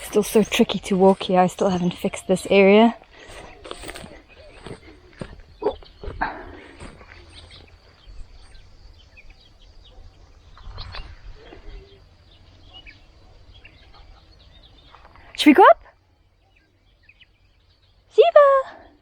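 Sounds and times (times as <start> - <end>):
footsteps on rough ground: 0.0 - 15.7
faint bird chirps: 0.0 - 19.0.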